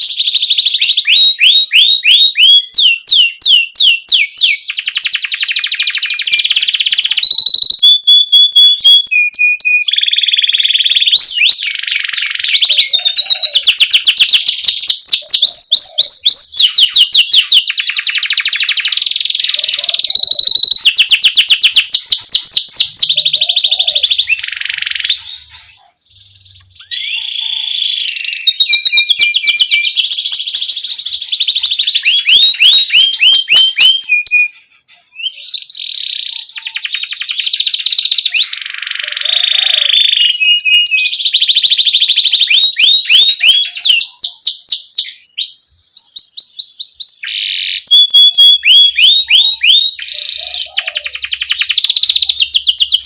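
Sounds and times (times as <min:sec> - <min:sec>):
canary singing trills: 0:00.0 - 0:53.0.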